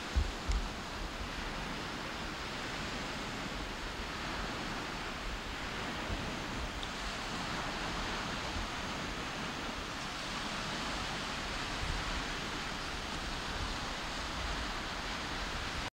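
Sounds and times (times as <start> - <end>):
small waves washing onto sand: 0.0 - 15.9
wind rumble on microphone: 0.0 - 15.9.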